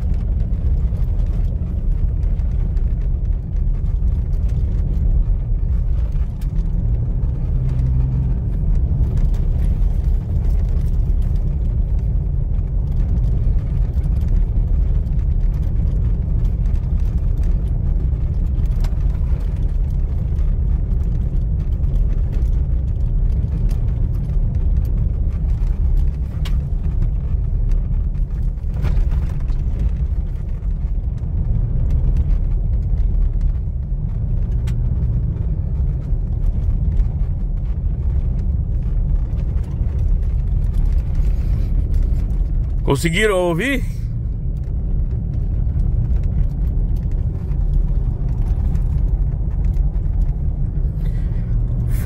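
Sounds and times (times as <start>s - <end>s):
road and tyre rumble: 0.0s - 52.0s.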